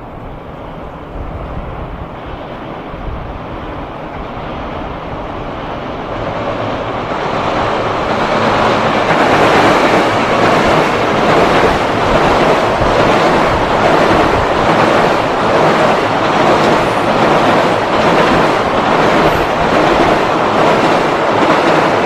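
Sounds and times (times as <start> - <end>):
freight train rolling on rails: 0.0 - 22.0.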